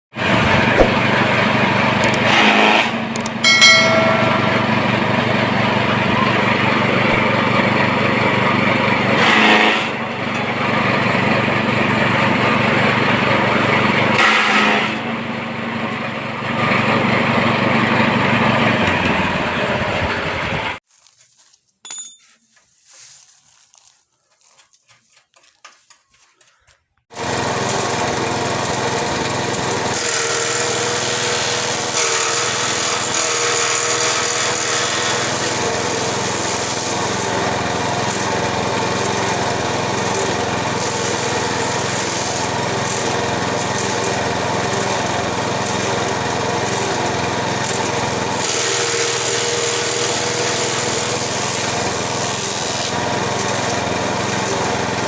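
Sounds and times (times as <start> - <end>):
grass chopper machine running: 0.2 - 21.1, 26.4 - 55.0.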